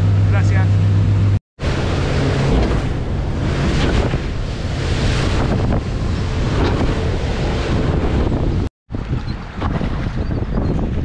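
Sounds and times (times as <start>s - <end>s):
water rushing against hull: 0.0s - 11.0s
wind buffeting microphone: 1.6s - 11.0s.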